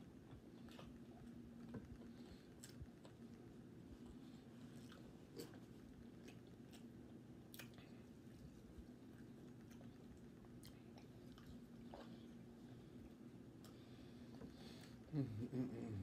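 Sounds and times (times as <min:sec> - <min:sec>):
steady low hum: 0:00.0 - 0:16.0
person chewing: 0:00.2 - 0:15.0.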